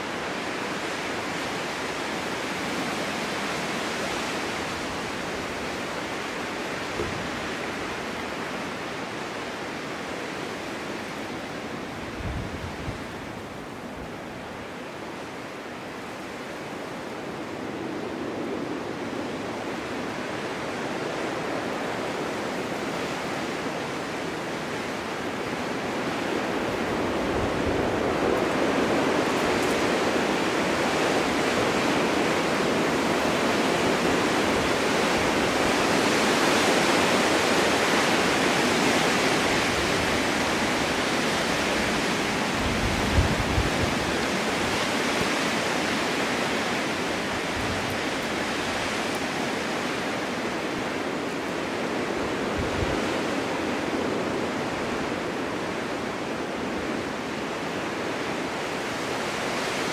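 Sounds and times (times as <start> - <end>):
storm wind blowing: 0.0 - 59.9.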